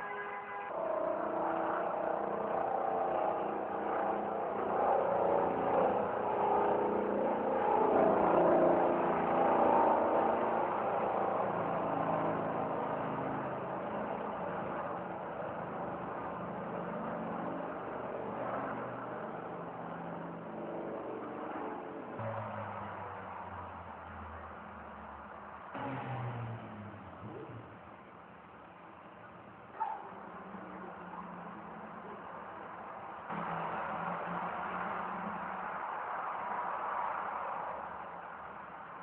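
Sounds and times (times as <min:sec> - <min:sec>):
vehicle engine passing: 0:00.8 - 0:28.3, 0:29.4 - 0:38.7.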